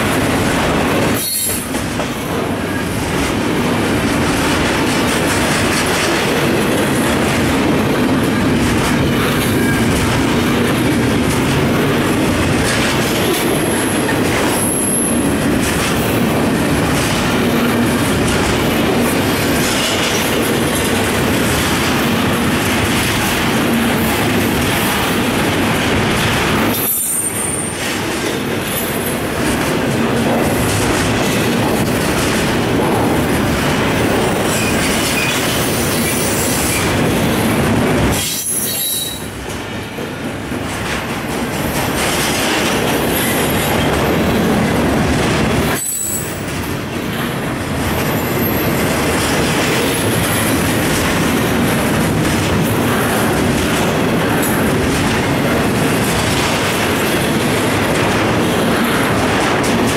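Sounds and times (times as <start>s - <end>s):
freight train cars rolling: 0.0s - 59.9s.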